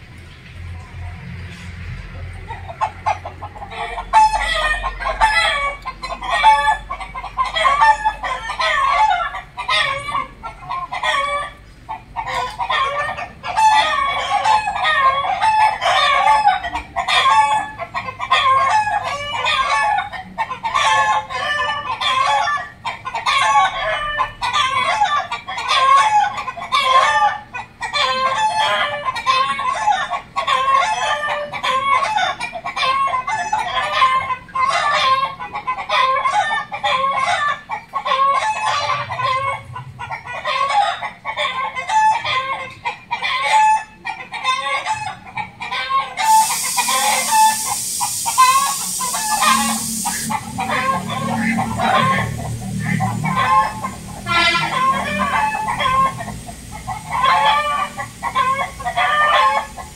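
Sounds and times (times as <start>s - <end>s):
chickens clucking: 0.2s - 59.9s
roosters crowing: 3.1s - 39.7s, 40.4s - 59.9s.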